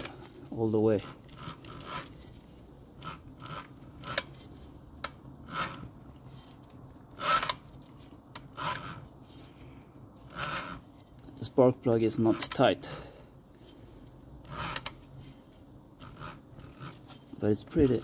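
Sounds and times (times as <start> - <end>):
engine scraping as turned by hand: 0.0 - 12.7, 13.5 - 18.0.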